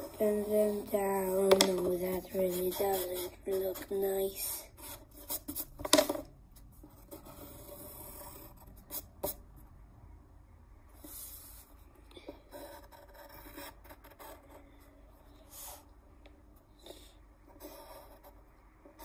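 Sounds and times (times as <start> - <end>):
pencil scratching on paper: 0.0 - 5.7, 6.9 - 9.4, 11.0 - 15.9, 16.9 - 19.0.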